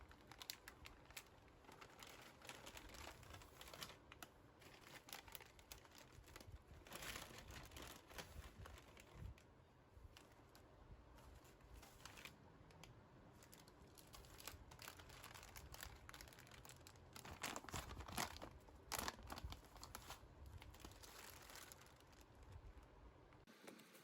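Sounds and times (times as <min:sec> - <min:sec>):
packaging crinkling and rustling: 0:00.0 - 0:23.0.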